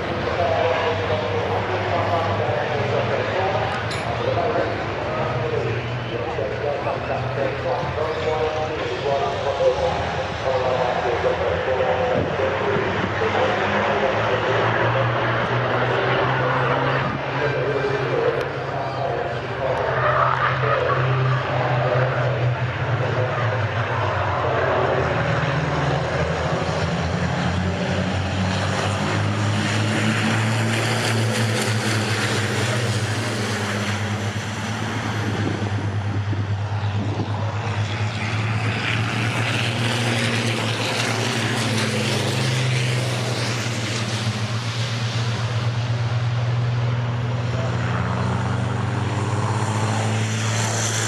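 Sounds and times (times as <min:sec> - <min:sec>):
heavy engines droning: 0:00.0 - 0:51.0.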